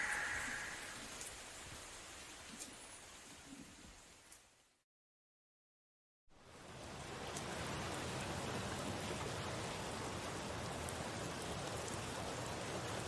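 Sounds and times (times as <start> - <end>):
steady rain hiss: 0.0 - 4.8, 6.3 - 13.0.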